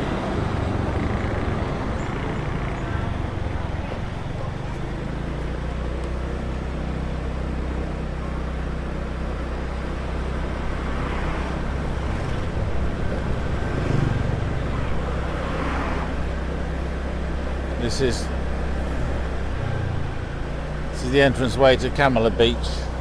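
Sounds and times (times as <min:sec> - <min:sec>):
motor scooter engine hum: 0:00.0 - 0:23.0
road noise: 0:00.0 - 0:23.0.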